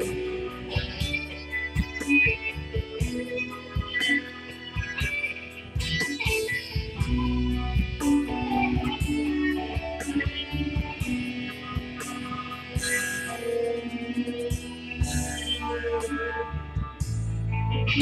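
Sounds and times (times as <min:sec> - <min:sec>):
electric guitar playing: 0:00.0 - 0:18.0
steady ticking beat: 0:00.0 - 0:18.0.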